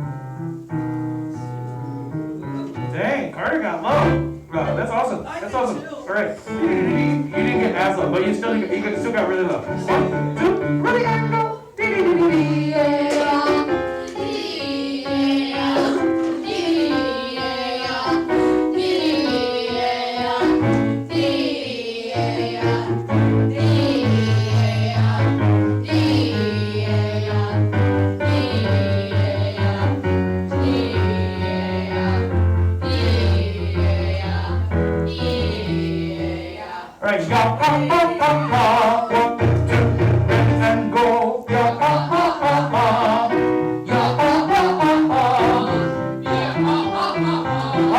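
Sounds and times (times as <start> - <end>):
instrumental accompaniment: 0.0 - 47.9
young voices singing: 0.3 - 47.9.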